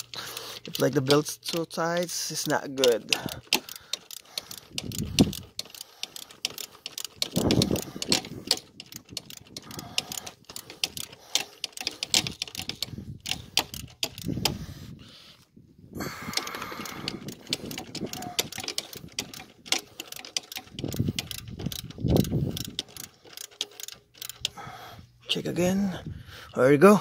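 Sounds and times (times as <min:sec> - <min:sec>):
ratchet wrench clicking: 0:00.0 - 0:14.7, 0:16.0 - 0:24.8.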